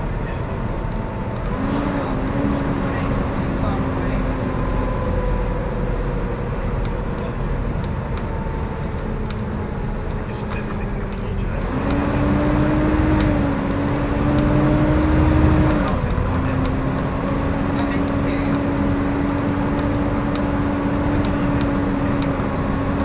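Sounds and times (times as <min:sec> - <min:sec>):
bus engine whine: 0:00.0 - 0:23.0
road noise: 0:00.0 - 0:23.0.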